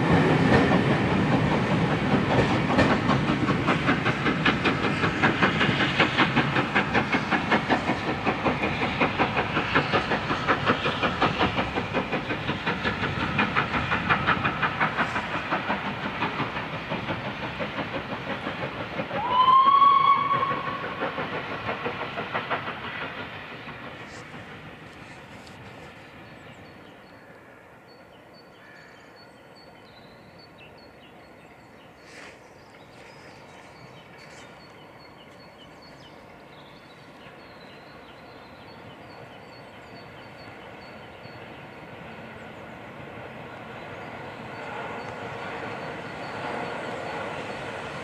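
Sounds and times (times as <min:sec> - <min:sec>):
steam train rumbling: 0:00.0 - 0:48.0.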